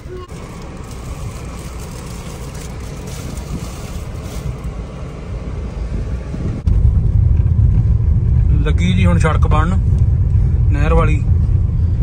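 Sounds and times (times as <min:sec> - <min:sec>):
engine and tyre rumble: 0:00.0 - 0:12.0
wind buffeting microphone: 0:01.0 - 0:12.0.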